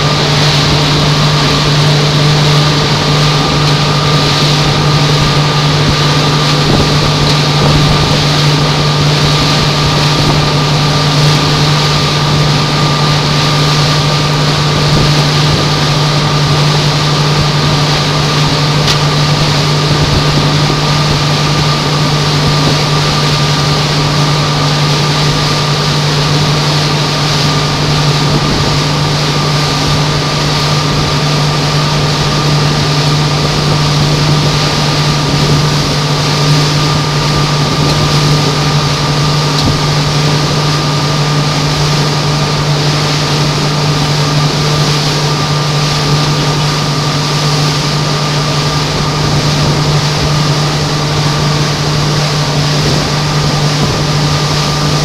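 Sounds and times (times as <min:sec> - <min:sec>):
motorboat engine hum: 0:00.0 - 0:55.0
rush of wind and water: 0:00.0 - 0:55.0.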